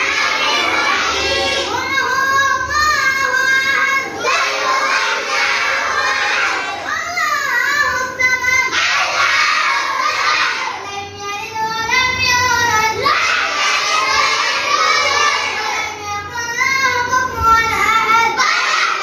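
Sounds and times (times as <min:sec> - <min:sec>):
child chanting melodically: 0:00.0 - 0:19.0
children's voices: 0:00.0 - 0:19.0.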